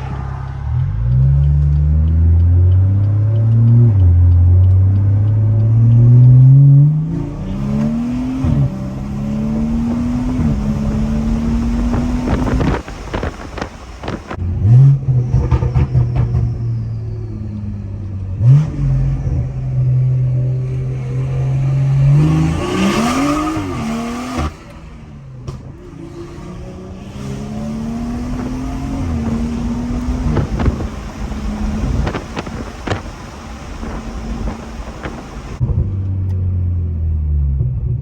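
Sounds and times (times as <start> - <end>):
exhaust pops: 0.0 - 16.8, 20.6 - 26.1, 27.1 - 36.5
car engine revving under load: 0.0 - 38.0.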